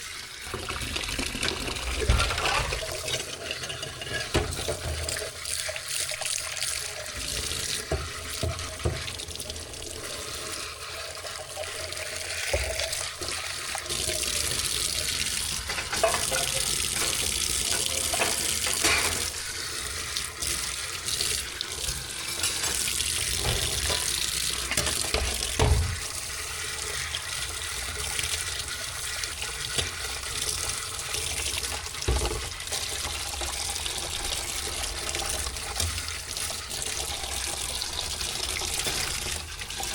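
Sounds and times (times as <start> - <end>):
water running into a sink: 0.0 - 39.9.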